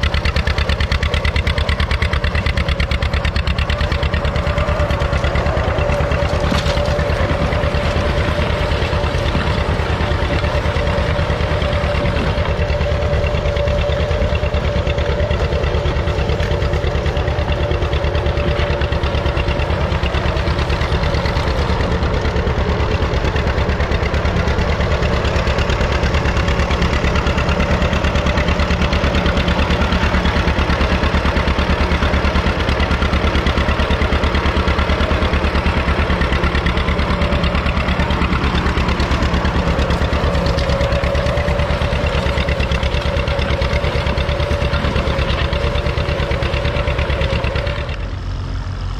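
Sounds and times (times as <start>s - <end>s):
tractor engine chugging: 0.0s - 48.9s.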